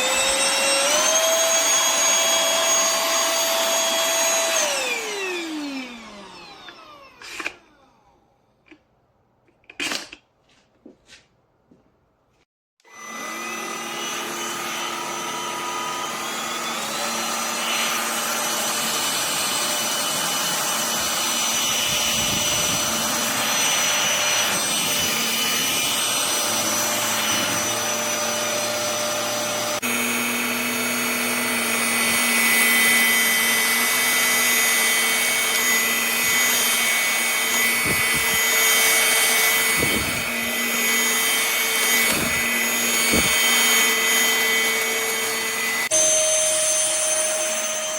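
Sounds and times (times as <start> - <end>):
vacuum cleaner motor whine: 0.0 - 8.3, 12.8 - 47.9.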